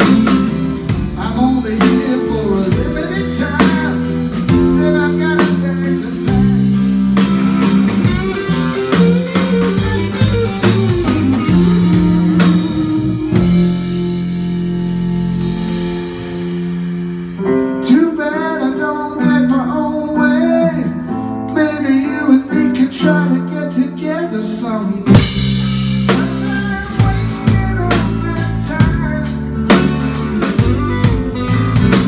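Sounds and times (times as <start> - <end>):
live rock band playing: 0.0 - 32.0.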